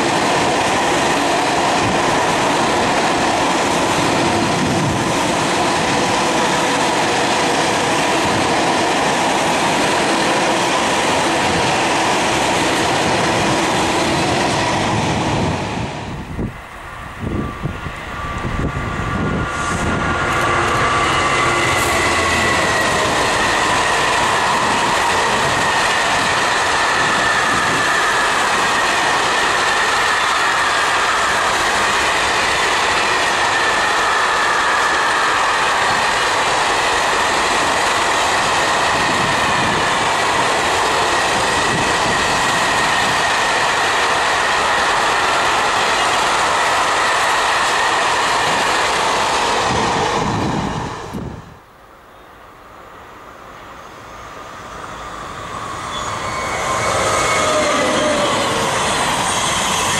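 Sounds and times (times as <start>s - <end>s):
diesel locomotive passing: 0.0s - 59.9s
freight train rolling past: 0.0s - 59.9s
high whine of train wheels: 0.0s - 59.9s.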